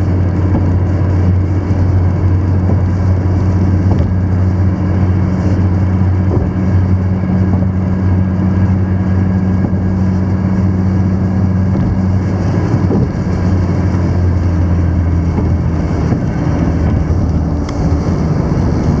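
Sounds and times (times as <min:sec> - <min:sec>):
car engine drone: 0:00.0 - 0:19.0
tyre and road noise: 0:00.0 - 0:19.0.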